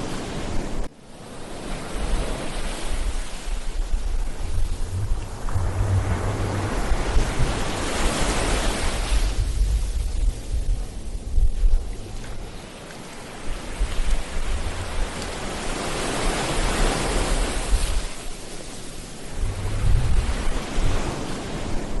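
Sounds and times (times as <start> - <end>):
ocean surf washing onto beach: 0.0 - 22.0
wind rumble on microphone: 0.0 - 22.0.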